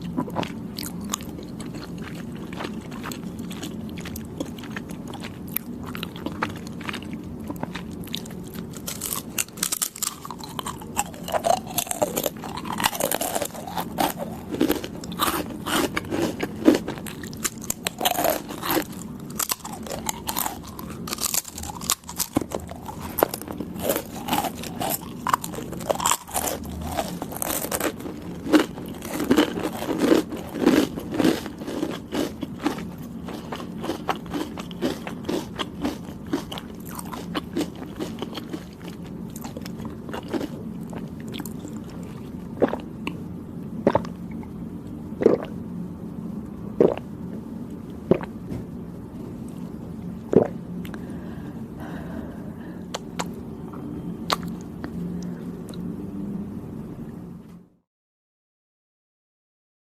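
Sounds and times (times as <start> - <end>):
chewing soft desserts: 0.0 - 48.4, 49.1 - 56.2.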